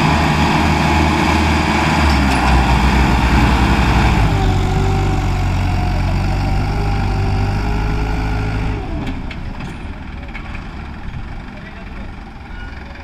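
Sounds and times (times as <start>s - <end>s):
diesel tractor engines under load: 0.0s - 13.0s.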